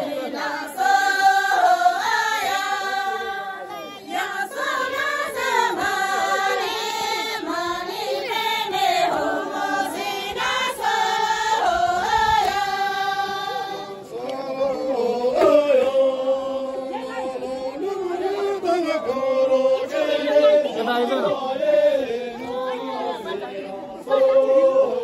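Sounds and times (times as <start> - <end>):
group singing in unison: 0.0 - 25.0.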